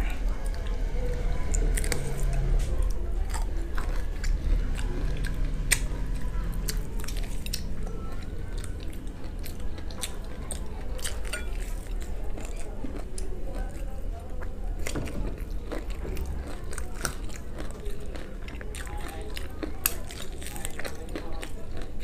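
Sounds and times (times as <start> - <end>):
crunching fried chicken: 0.0 - 22.0
steady low hum: 0.0 - 22.0.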